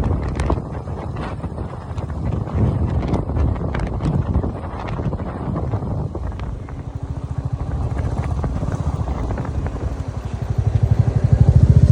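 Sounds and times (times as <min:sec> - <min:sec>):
motorcycle engine running: 0:00.0 - 0:11.9
wind buffeting microphone: 0:00.0 - 0:11.9.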